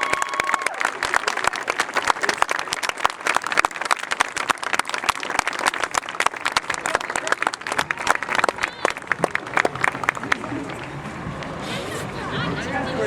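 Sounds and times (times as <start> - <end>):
crowd applauding: 0.0 - 11.6.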